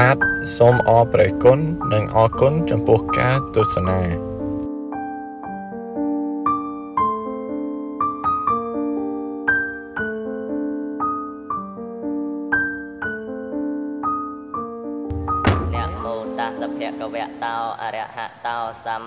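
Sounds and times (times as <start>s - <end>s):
slow gentle piano music: 0.0s - 17.5s.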